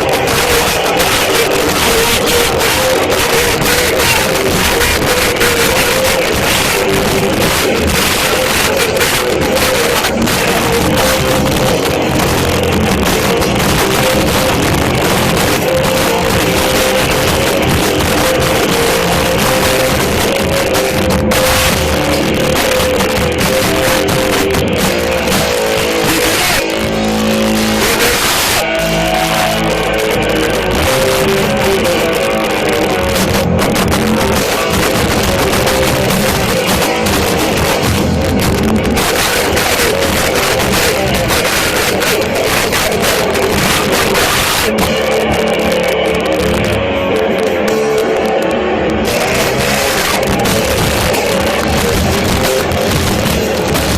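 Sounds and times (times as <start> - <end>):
distorted live rock band: 0.0 - 53.9.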